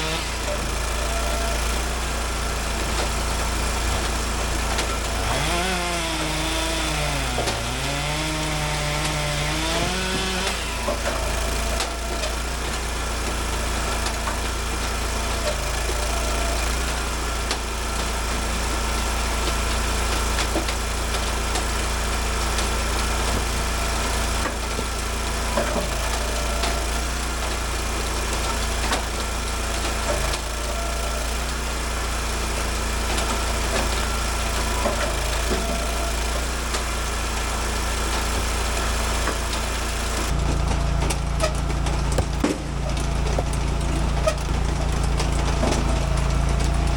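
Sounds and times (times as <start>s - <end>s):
log splitter engine running: 0.0s - 46.9s.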